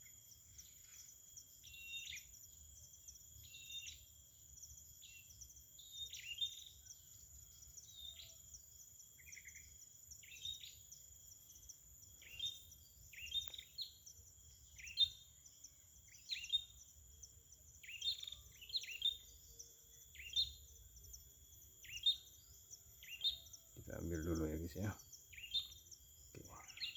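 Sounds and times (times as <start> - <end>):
high insect drone: 0.0 - 26.9.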